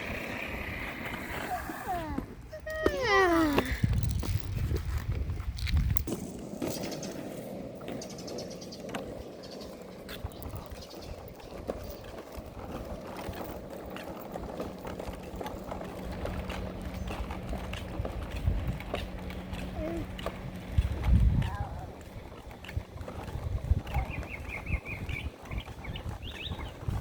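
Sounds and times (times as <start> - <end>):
wind buffeting microphone: 0.0 - 6.3, 9.1 - 27.0
footsteps on street: 2.0 - 27.0.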